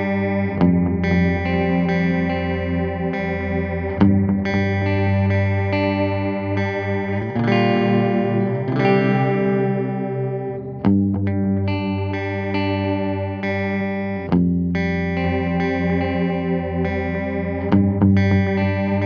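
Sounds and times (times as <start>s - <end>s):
electric guitar with delay echoes: 0.0s - 19.0s.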